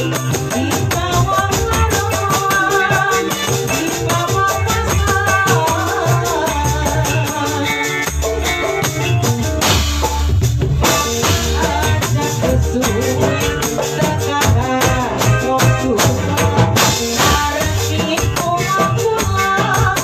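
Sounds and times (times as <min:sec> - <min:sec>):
tambourine jingling: 0:00.0 - 0:16.1
fast rhythmic music: 0:00.0 - 0:20.0.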